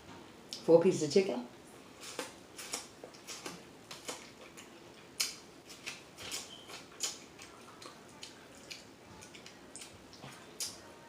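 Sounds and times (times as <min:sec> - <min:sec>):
chewing and lip smacking: 0:02.0 - 0:10.9.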